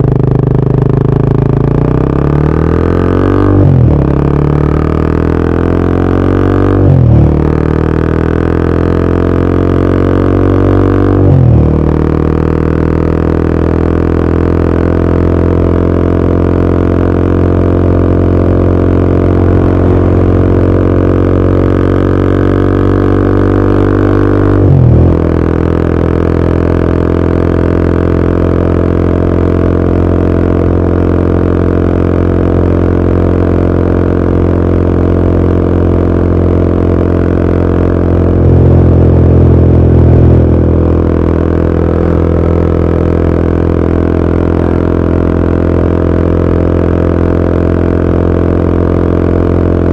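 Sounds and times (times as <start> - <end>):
motorcycle engine droning: 0.0 - 49.9.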